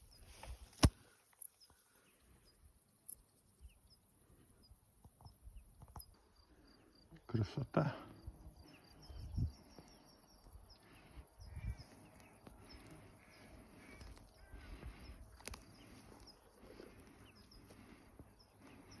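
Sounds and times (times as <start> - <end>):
distant birds chirping: 0.0 - 19.0.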